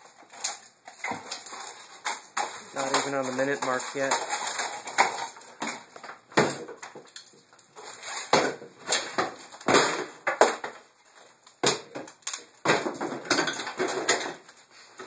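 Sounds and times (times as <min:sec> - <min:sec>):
wood cracking and splintering: 0:00.0 - 0:14.6.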